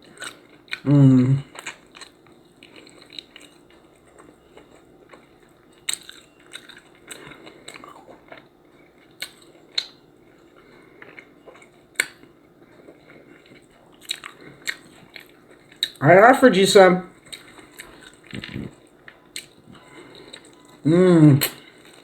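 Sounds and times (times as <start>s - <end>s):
person chewing: 0.0s - 16.0s, 17.1s - 22.0s.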